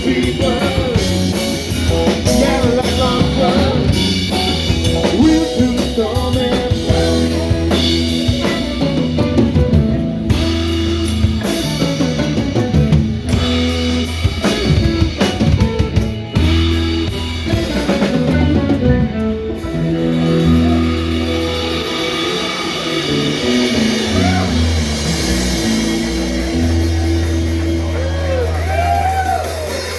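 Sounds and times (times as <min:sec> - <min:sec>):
bass guitar held notes: 0:00.0 - 0:29.9
drum kit: 0:00.0 - 0:29.9
electric guitar: 0:00.0 - 0:29.9.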